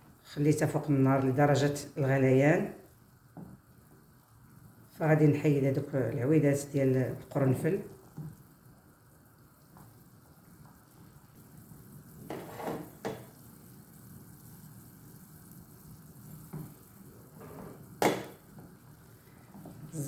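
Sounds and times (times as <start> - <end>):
oil sizzling in a pot: 0.0 - 20.0.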